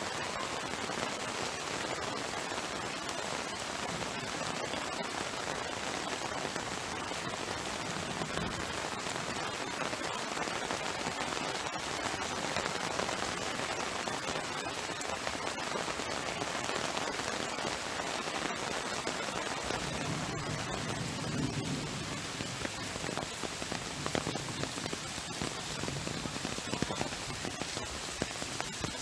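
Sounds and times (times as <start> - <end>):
heavy rain on hard surfaces: 0.0 - 29.0.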